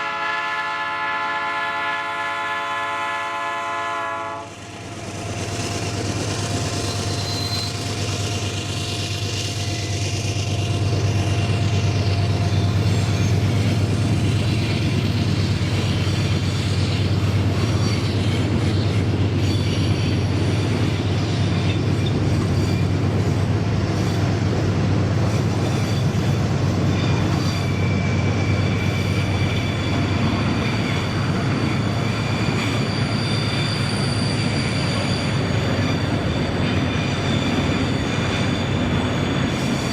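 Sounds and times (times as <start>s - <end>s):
freight train rumbling on rails: 0.0s - 39.9s
high wheel squeals: 4.4s - 24.5s, 25.2s - 39.9s.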